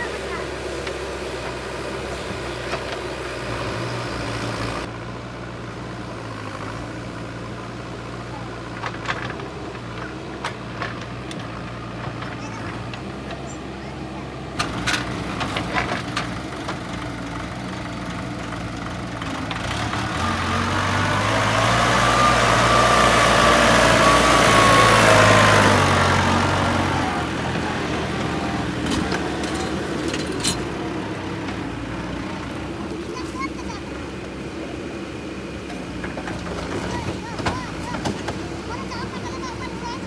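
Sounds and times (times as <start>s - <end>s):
heavy vehicle engine running: 0.0s - 40.0s.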